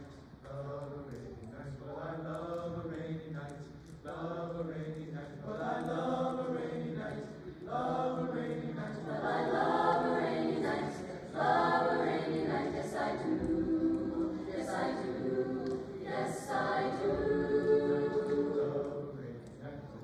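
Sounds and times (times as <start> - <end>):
choir singing in harmony: 1.6 - 20.0.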